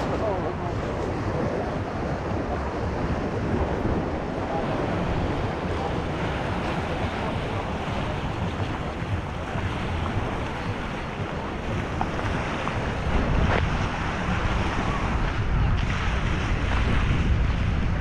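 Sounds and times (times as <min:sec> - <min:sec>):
sea waves washing on beach: 0:00.0 - 0:18.0
wind buffeting microphone: 0:00.0 - 0:18.0.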